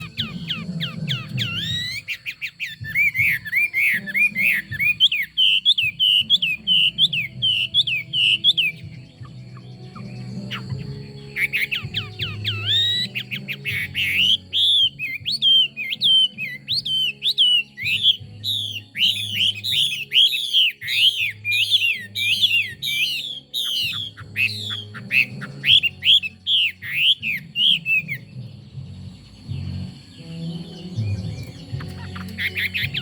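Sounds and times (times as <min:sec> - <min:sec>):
bird singing whistled notes: 0:00.0 - 0:33.0.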